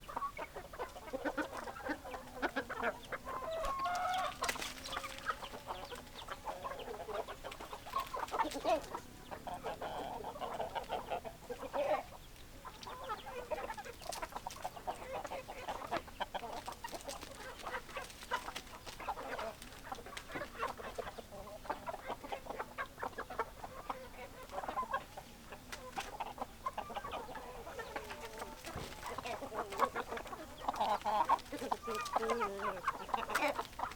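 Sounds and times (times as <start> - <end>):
hens clucking and squawking: 0.0 - 33.9.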